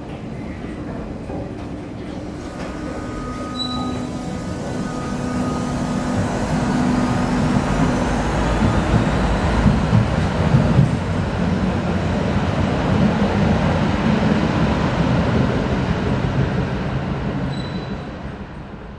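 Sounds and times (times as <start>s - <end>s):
tram rumbling on rails: 0.0s - 18.9s.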